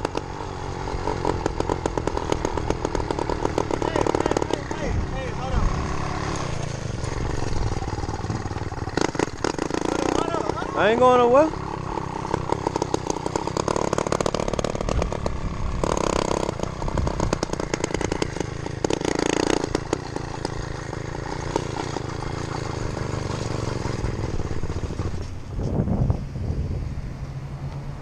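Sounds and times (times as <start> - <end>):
two-stroke engine revving: 0.0 - 25.4.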